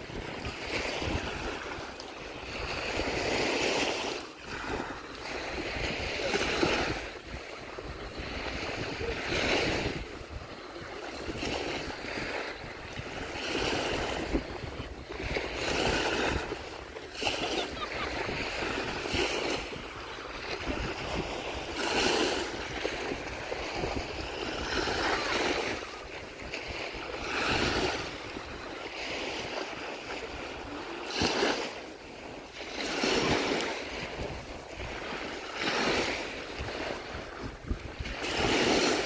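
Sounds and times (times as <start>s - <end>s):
waves washing onto sandy beach: 0.0s - 39.0s.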